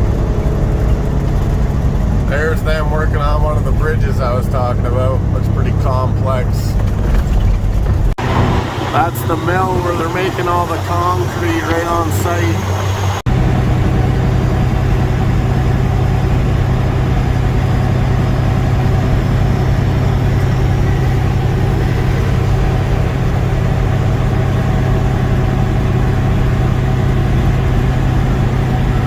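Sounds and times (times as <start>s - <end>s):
road noise: 0.0s - 29.0s
truck diesel engine drone: 0.0s - 29.0s.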